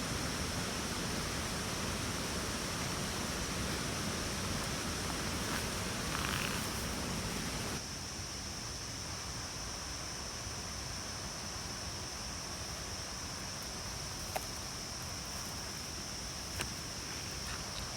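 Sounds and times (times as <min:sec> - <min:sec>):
low background hiss: 0:00.0 - 0:17.9
high-pitched insect chorus: 0:00.1 - 0:17.9.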